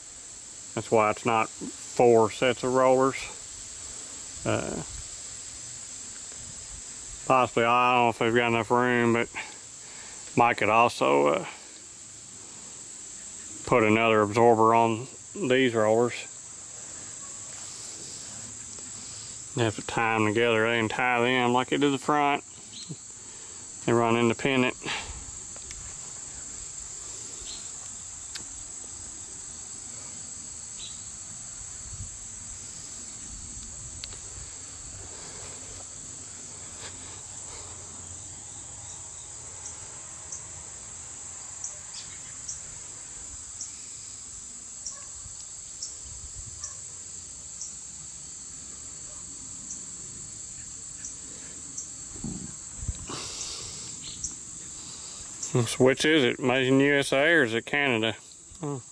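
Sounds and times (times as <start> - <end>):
insects chorus: 0.0 - 58.9.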